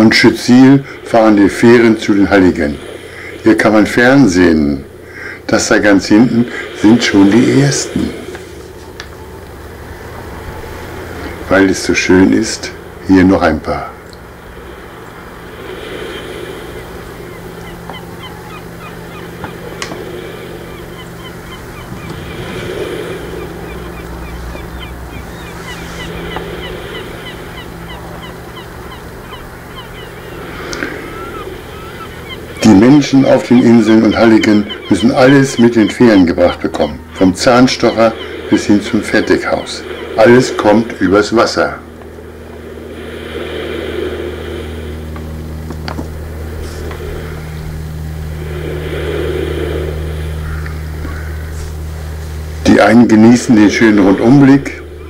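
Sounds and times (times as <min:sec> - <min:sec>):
engine humming: 0:00.0 - 0:55.0
flock of birds calling: 0:00.0 - 0:55.0
steady background rush: 0:00.0 - 0:55.0.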